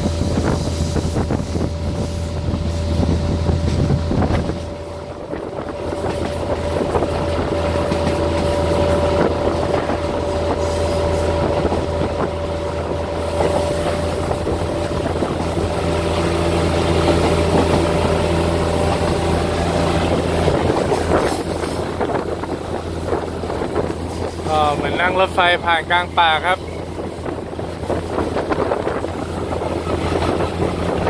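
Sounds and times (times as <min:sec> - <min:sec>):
train rumble inside carriage: 0:00.0 - 0:31.0.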